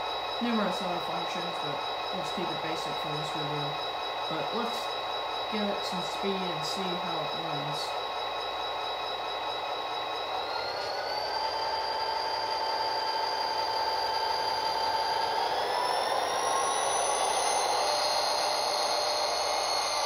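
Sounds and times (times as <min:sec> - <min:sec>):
whine rising in pitch: 0:00.0 - 0:20.0.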